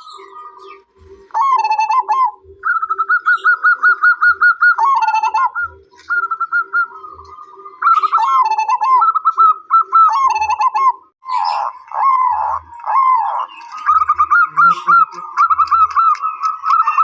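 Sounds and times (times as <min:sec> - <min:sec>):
doves cooing rhythmically: 0:00.0 - 0:17.0.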